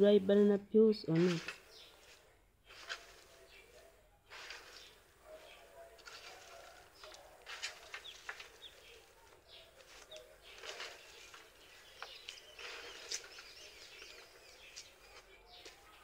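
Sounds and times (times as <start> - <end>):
birds chirping faintly: 0.0 - 16.0
dry peels rustling on metal: 1.2 - 15.8.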